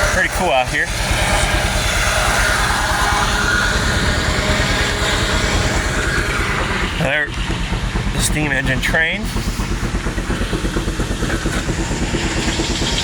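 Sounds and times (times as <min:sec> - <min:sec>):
machinery rumbling: 0:00.0 - 0:13.0.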